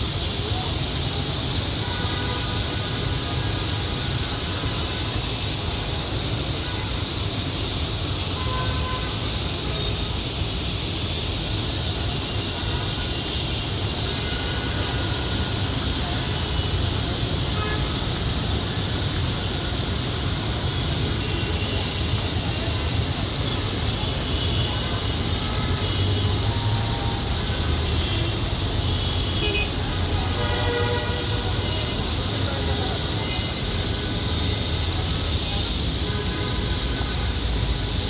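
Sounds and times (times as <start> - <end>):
rumble of city traffic: 0.0 - 38.0.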